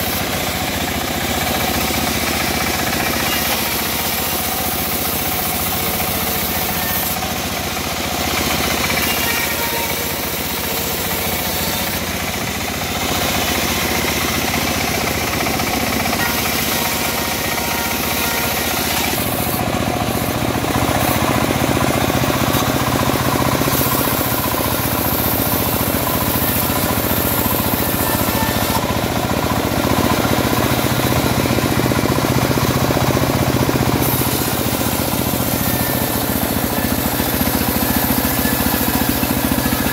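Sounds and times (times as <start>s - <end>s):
saw blade rasping through wood: 0.0s - 39.9s
sawmill machine drone: 0.0s - 39.9s.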